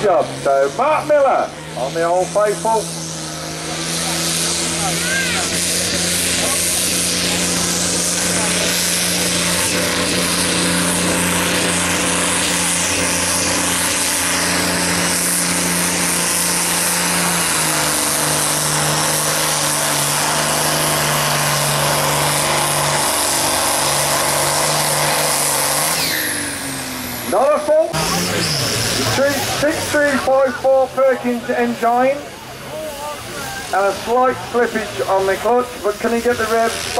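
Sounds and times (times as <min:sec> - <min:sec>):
tractor diesel engine straining: 0:00.0 - 0:36.9.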